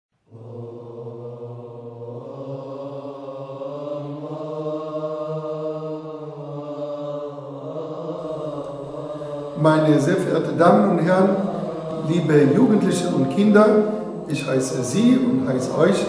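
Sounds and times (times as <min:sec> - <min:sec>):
male chanting in held notes: 0:00.3 - 0:16.0.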